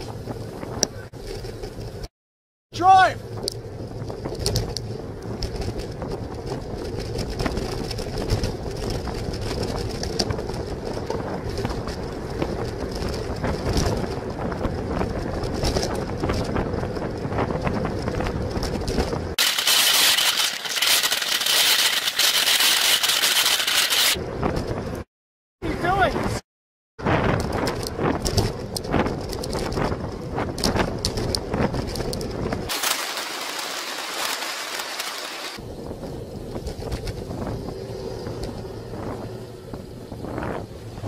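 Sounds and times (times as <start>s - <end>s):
bicycle road noise: 0.0s - 2.1s, 2.8s - 26.4s, 27.0s - 41.0s
wind noise on microphone: 0.0s - 2.1s, 3.2s - 26.4s, 27.0s - 32.8s, 35.6s - 41.0s.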